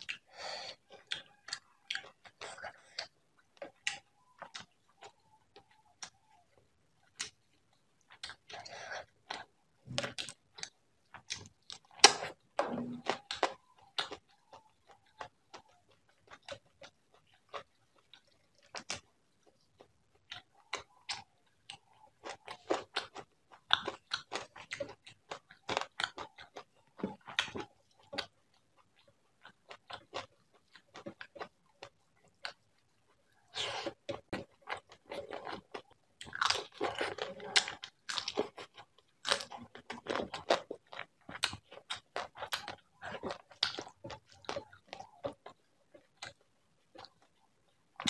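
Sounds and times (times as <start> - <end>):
man chewing and lip smacking: 0.0 - 48.0.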